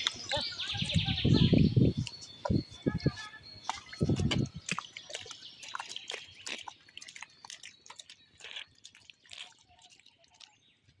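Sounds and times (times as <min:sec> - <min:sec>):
water dripping and splashing: 0:00.0 - 0:02.6, 0:03.6 - 0:11.0.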